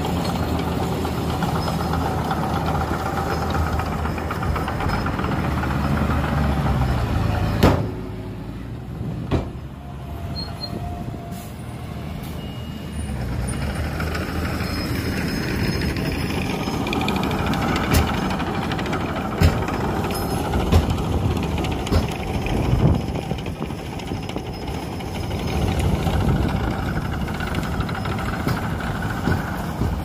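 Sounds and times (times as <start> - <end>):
diesel machinery rumbling: 0.0 - 30.0.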